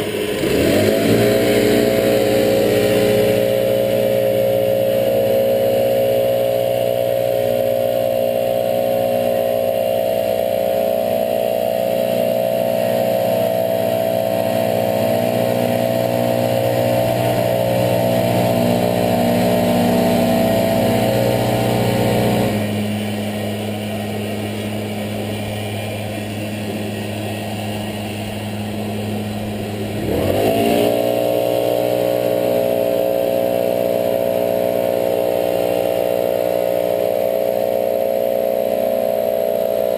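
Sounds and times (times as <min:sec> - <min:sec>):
leaf blowers engine drone: 0:00.0 - 0:39.9.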